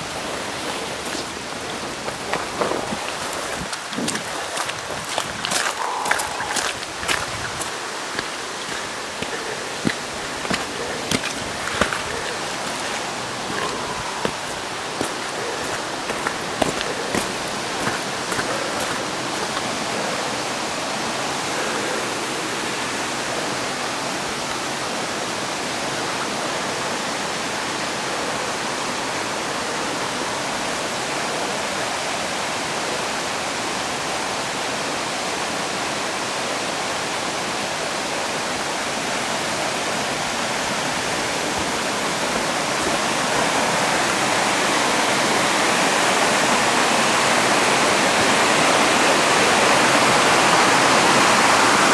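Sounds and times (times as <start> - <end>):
stream rapids rushing: 0.0 - 51.9.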